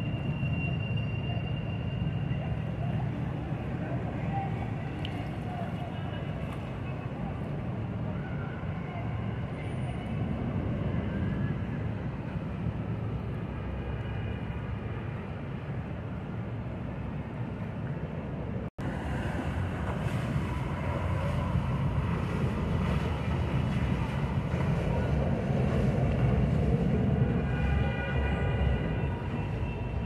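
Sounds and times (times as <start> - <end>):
water noise: 0.0 - 30.0
boat motors rumbling: 0.1 - 30.0.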